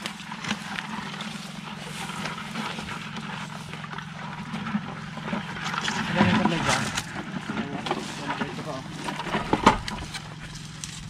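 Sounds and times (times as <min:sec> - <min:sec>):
footsteps in dry grass: 0:00.0 - 0:11.0.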